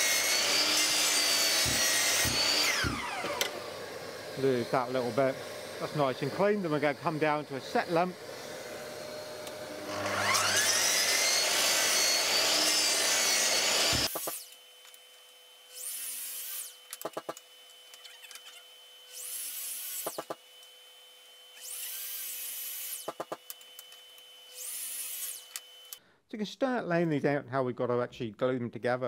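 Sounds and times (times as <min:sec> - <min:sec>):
mitre saw cutting wood: 0:00.0 - 0:14.7, 0:15.7 - 0:26.0.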